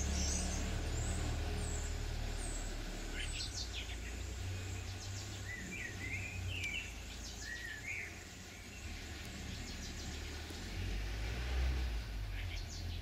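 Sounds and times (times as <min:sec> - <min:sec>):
small bird chirping: 0:00.0 - 0:10.7, 0:12.2 - 0:13.0.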